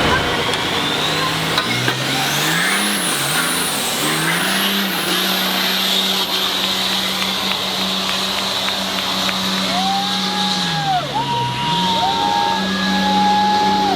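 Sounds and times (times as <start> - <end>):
engine revving under load: 0.0 - 13.9.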